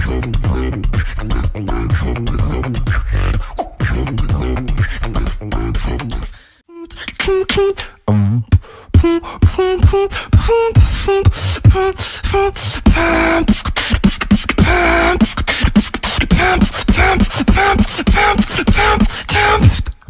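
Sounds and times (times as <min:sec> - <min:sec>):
human beatboxing: 0:00.0 - 0:20.0.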